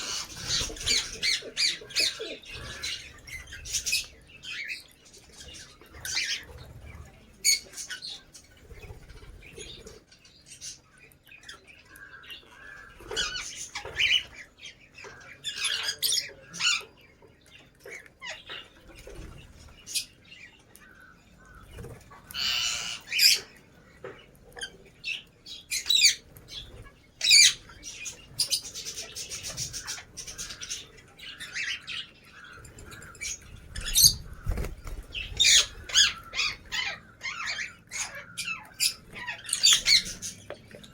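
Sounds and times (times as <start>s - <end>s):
birds chirping and squawking: 0.0s - 40.9s.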